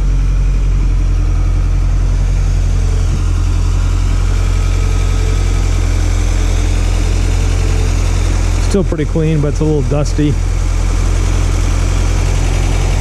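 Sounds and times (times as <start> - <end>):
pickup engine idling: 0.0 - 13.0.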